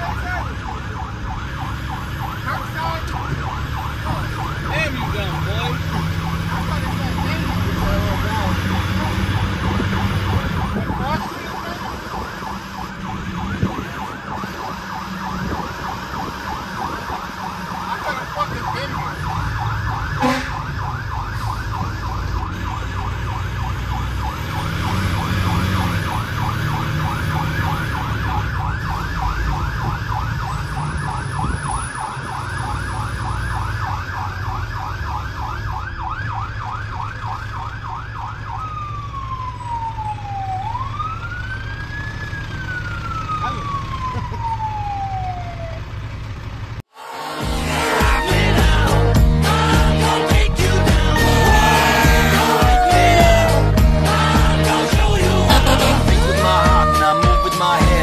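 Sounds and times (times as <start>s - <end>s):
diesel engine running: 0.0s - 34.6s, 40.9s - 58.0s
fire truck siren: 0.0s - 58.0s.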